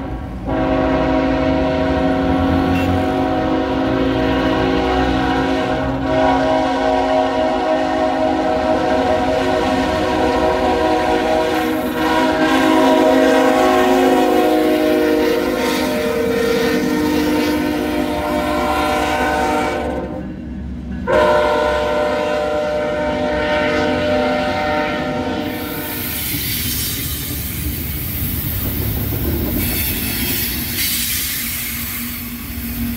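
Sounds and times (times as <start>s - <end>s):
locomotive air horn: 0.0s - 20.4s, 21.0s - 27.3s
diesel locomotives running: 0.0s - 32.9s.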